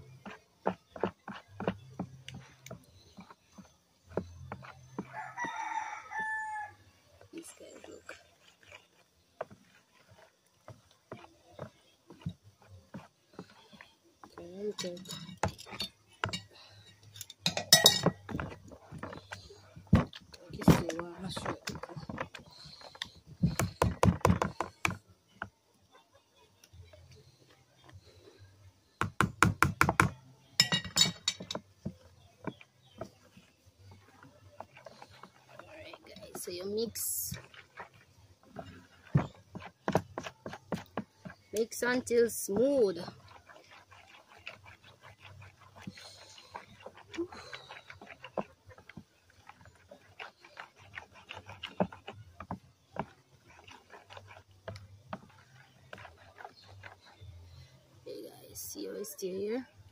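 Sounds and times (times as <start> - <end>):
wooden spoon stirring in plastic bowl: 0.0 - 25.8, 26.6 - 59.9.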